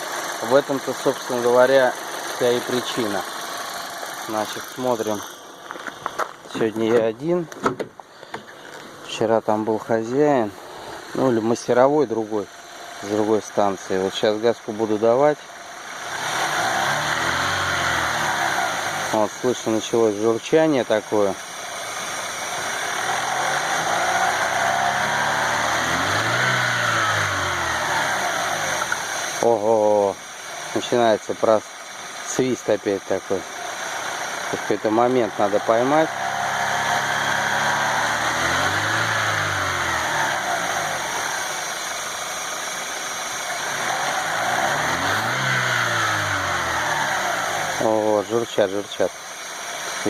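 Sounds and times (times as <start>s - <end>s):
car engine revving: 0.0s - 6.2s, 10.5s - 32.2s, 33.0s - 50.0s
gurgling engine noise: 0.0s - 50.0s.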